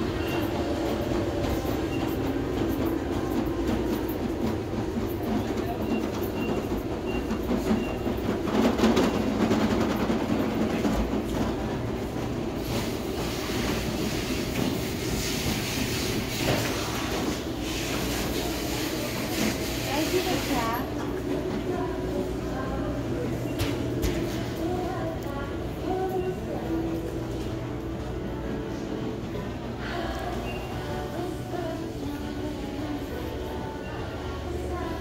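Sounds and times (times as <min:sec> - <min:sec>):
busy shop background din: 0:00.0 - 0:35.0.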